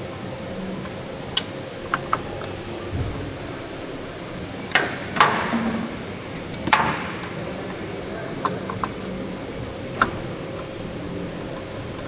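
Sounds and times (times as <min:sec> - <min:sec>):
steady background hum: 0:00.0 - 0:12.0
ringing metal knocks: 0:01.4 - 0:12.0.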